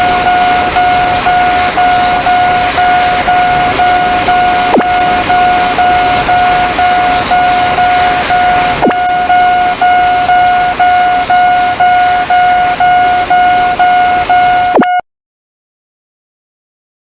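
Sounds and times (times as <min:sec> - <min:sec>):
rushing noise: 0:00.0 - 0:14.8
railroad crossing bell ringing: 0:00.0 - 0:15.0.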